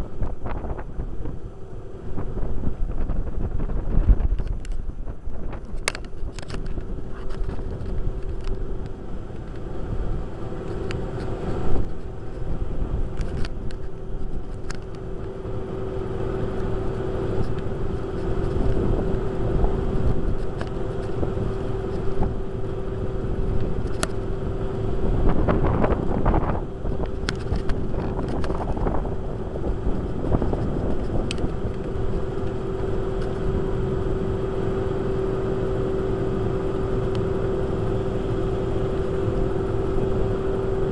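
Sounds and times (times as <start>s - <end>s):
electric boat motor humming: 0.0s - 40.9s
hull moving through water: 0.0s - 40.9s.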